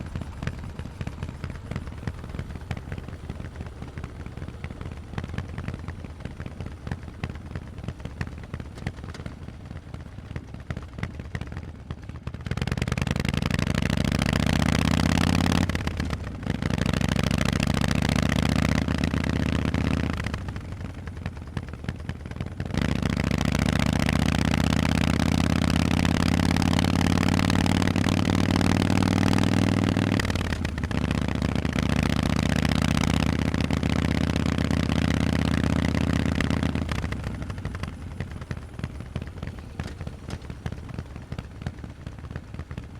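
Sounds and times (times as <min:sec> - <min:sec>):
motorcycle engine revving: 0:00.0 - 0:11.6, 0:12.4 - 0:42.9.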